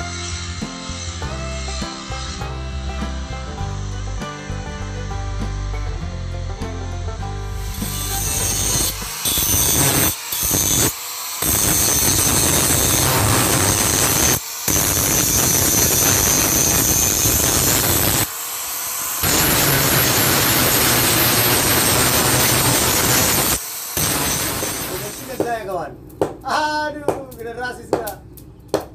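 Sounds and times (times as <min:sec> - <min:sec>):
angle grinder grinding steel: 0:00.0 - 0:25.5.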